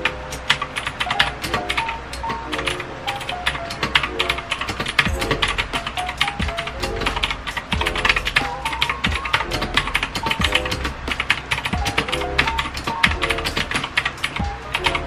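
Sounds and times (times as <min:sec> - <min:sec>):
background music: 0:00.0 - 0:15.0
fast mechanical keyboard typing: 0:00.0 - 0:15.0.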